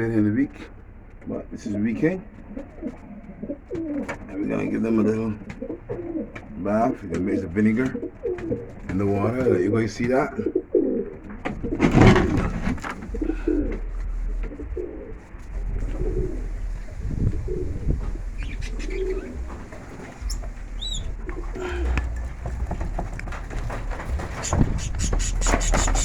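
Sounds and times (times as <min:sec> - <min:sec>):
high pigeon call: 0:00.0 - 0:26.0
pigeons cooing: 0:00.0 - 0:26.0.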